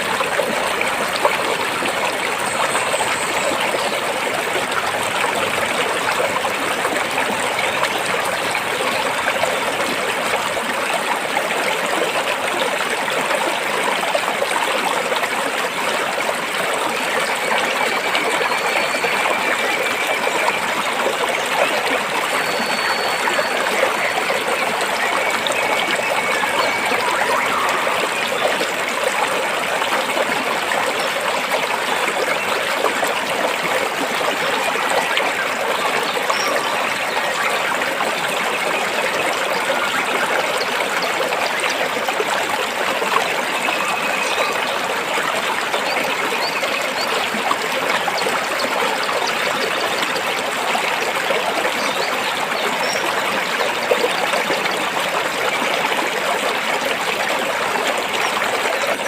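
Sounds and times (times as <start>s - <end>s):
water flowing over rocks: 0.0s - 59.0s.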